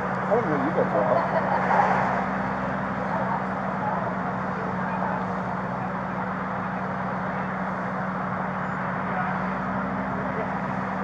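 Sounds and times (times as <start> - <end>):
engine hum: 0.0 - 11.0
road traffic rush: 0.0 - 11.0.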